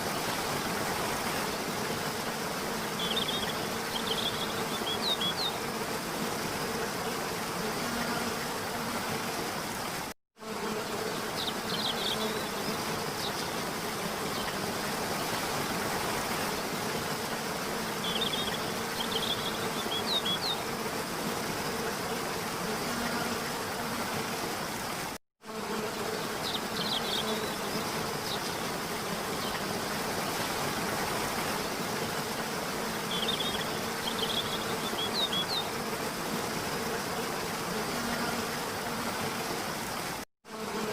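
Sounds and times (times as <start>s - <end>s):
waterfall: 0.0s - 10.2s, 10.9s - 25.2s, 26.3s - 40.3s.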